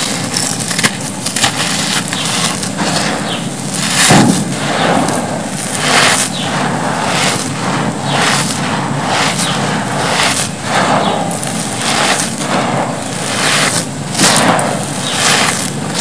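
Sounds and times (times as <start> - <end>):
cement crumbled by hand: 0.0 - 16.0.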